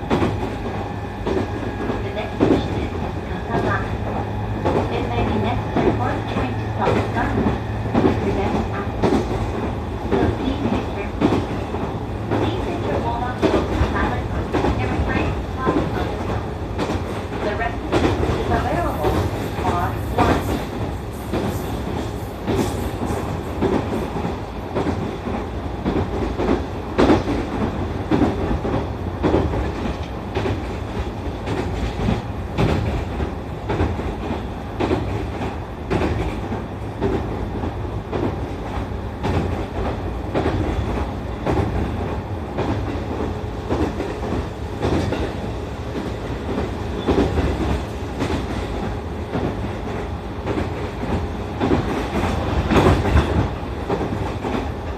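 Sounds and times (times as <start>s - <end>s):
train rumble: 0.0s - 54.9s.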